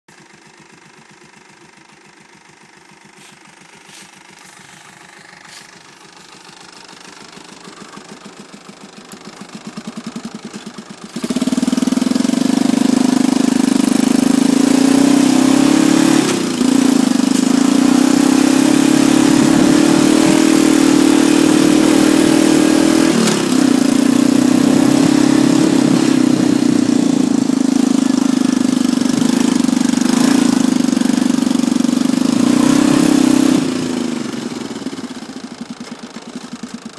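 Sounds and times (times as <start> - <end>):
quad bike engine: 0.1 - 36.9.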